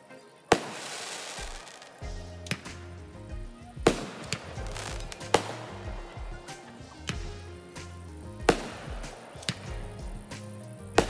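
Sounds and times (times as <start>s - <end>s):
fireworks bangs: 0.5s - 2.8s, 3.8s - 11.0s
music with bass line: 2.0s - 11.0s.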